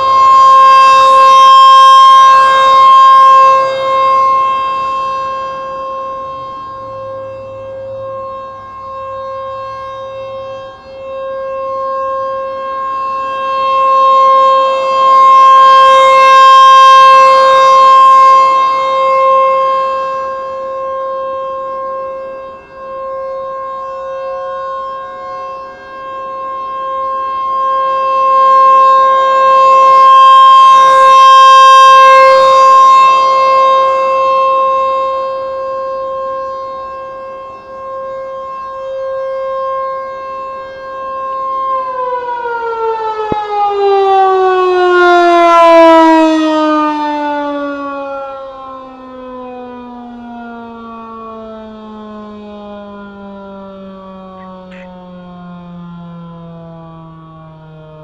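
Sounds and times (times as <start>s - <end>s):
dual-tone warning siren: 0.0s - 58.0s.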